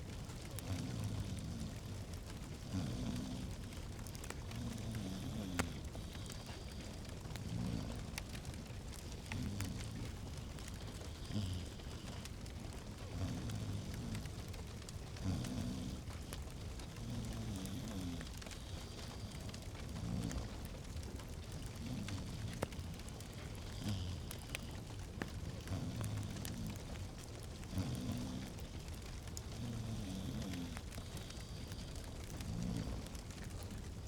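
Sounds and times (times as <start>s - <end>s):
fire popping: 0.0s - 34.0s
low rumble of flames: 0.0s - 34.0s
wood fire crackling: 0.0s - 34.0s.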